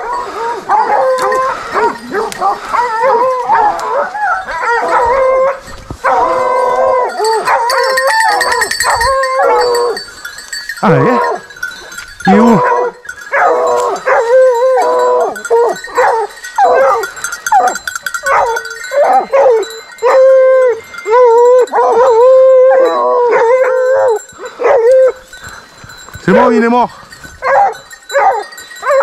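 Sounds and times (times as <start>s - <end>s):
hounds baying: 0.0s - 29.0s.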